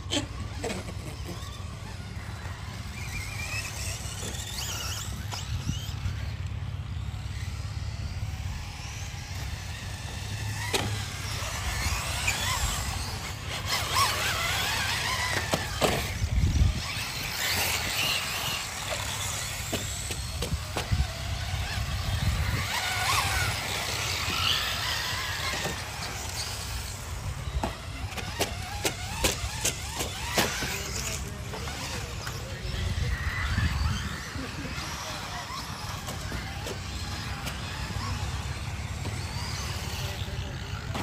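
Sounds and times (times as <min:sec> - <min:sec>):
electric motors whining: 0:00.0 - 0:41.0.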